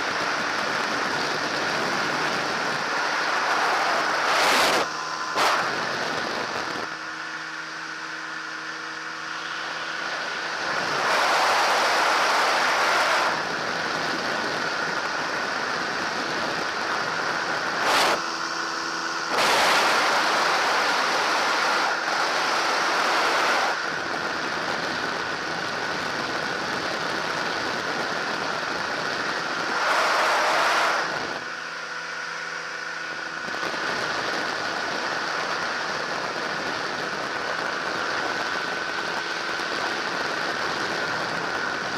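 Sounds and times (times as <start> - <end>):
microlight engine and propeller droning: 0.0 - 41.9
wind rush on microphone: 0.0 - 41.9.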